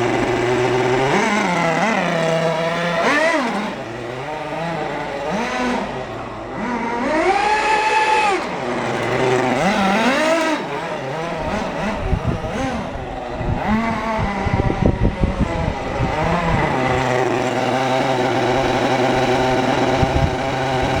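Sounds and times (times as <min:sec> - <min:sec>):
model rotary engine revving: 0:00.0 - 0:21.0.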